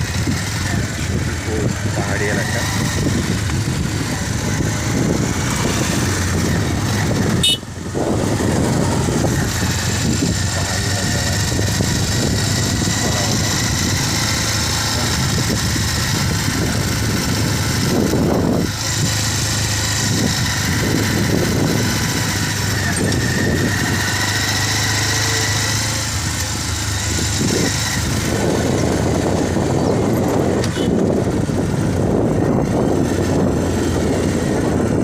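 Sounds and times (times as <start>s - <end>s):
road and wind noise: 0.0s - 35.0s
vehicle engine running: 0.0s - 35.0s.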